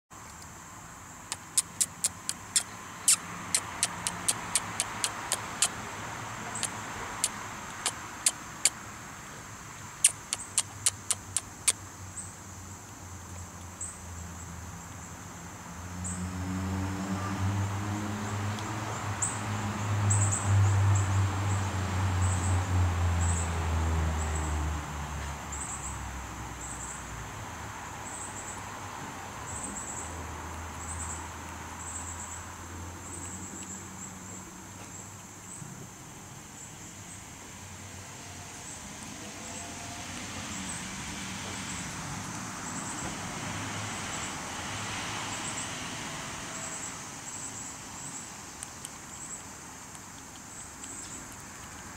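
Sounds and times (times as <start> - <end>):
insects chirping: 0.2 - 16.6, 17.6 - 51.9
vehicle engine rumble passing: 1.2 - 11.7, 13.1 - 51.9.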